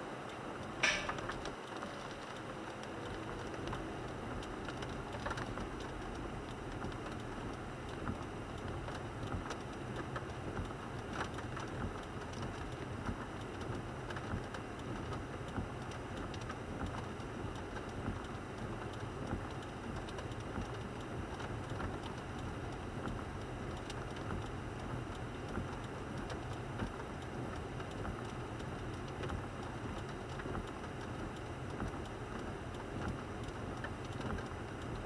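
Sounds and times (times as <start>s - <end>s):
rain on car windshield and roof: 0.0s - 35.0s.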